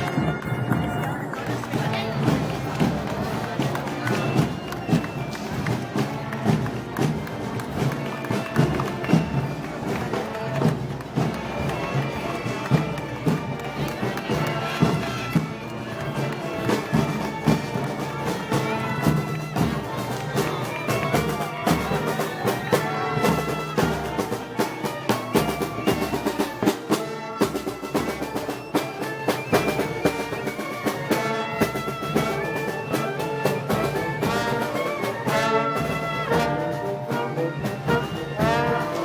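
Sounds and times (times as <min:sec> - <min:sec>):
drums beating: 0:00.0 - 0:39.0
trumpets and trombones melody: 0:00.0 - 0:39.0.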